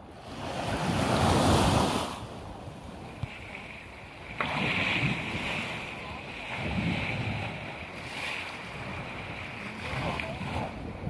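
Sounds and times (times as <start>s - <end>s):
waves washing on beach: 0.0s - 11.0s.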